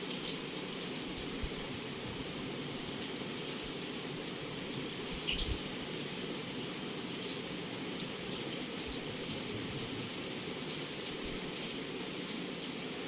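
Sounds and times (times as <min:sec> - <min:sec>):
heavy rain on a window: 0:00.0 - 0:13.0.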